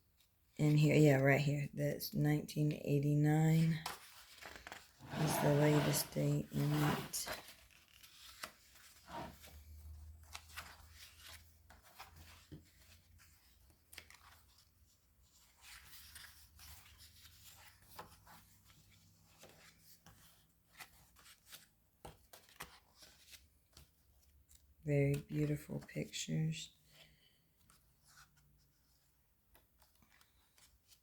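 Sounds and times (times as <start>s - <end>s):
book pages rustling: 3.5s - 25.6s, 26.8s - 31.0s.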